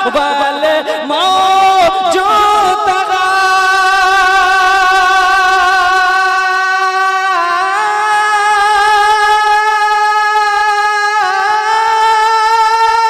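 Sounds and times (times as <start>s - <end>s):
man singing a long high vowel: 0.0s - 13.0s.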